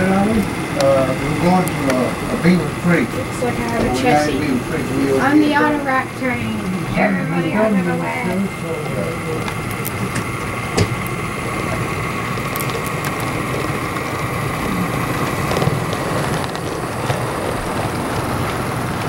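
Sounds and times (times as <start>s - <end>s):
model train motor whirring: 0.0s - 19.0s.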